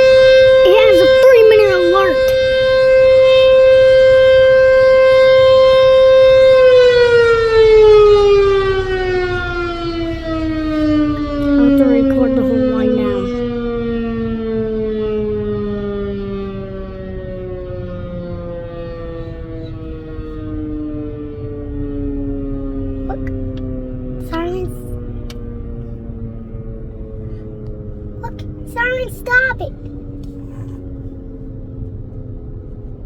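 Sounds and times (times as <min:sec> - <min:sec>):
warning siren winding down: 0:00.0 - 0:32.2.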